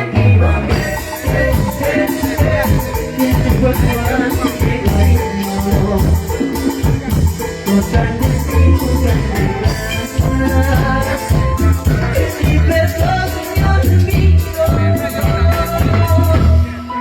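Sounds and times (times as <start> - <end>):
instrumental cumbia music: 0.0 - 17.0.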